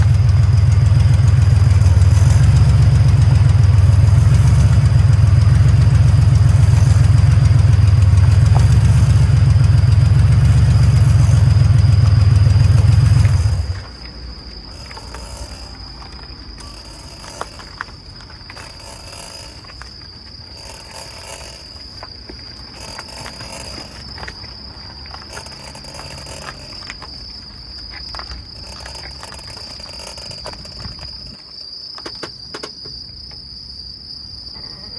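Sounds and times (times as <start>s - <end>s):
pulsing wheel bearing drone: 0.0s - 32.8s
crickets chirping: 0.0s - 34.9s.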